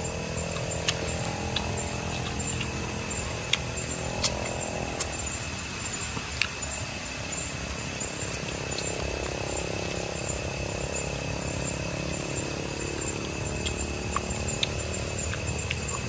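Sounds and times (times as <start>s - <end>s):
high-pitched drone: 0.0s - 16.0s
low hum: 0.0s - 16.0s.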